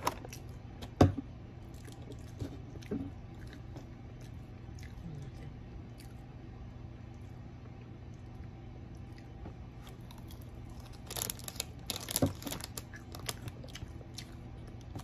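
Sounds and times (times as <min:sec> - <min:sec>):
low steady hum: 0:00.0 - 0:15.0
chewing and mouth sounds: 0:01.6 - 0:06.4, 0:07.0 - 0:15.0.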